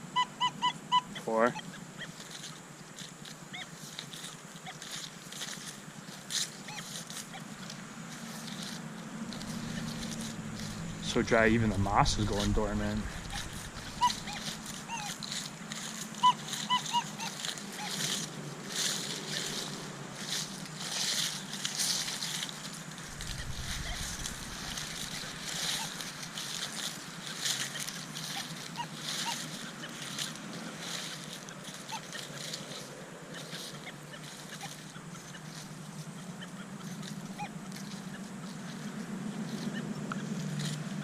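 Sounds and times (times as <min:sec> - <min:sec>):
dry leaves crunching: 0:00.1 - 0:41.0.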